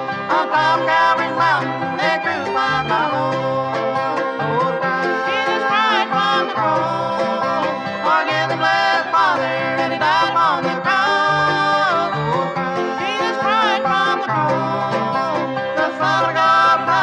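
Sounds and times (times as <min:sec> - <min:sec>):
banjo: 0:00.0 - 0:17.0
fiddle melody with sliding notes: 0:00.0 - 0:17.0
guitar: 0:00.0 - 0:17.0
upright bass: 0:00.0 - 0:17.0.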